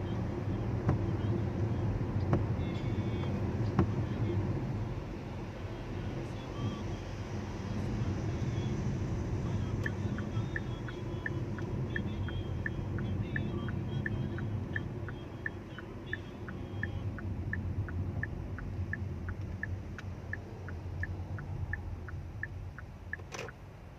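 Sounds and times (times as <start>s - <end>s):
street traffic rumble: 0.0s - 23.9s.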